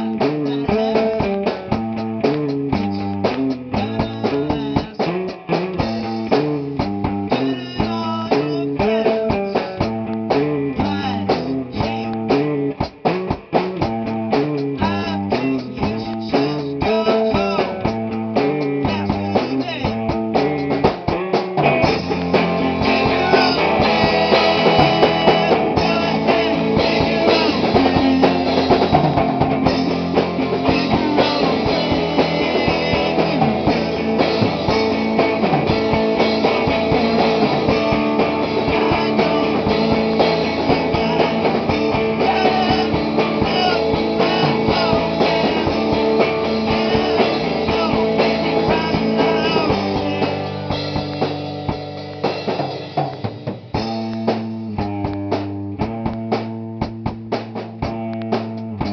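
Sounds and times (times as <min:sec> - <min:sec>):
drums: 0:00.0 - 0:58.9
guitar riff: 0:00.0 - 0:58.9.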